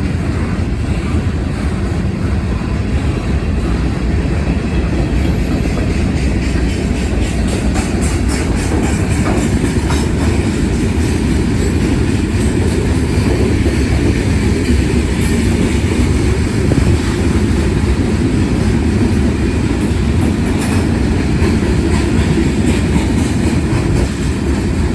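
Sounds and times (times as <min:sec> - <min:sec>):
freight train rumbling past: 0:00.0 - 0:24.9
wheels clicking over rail joints: 0:02.9 - 0:24.9.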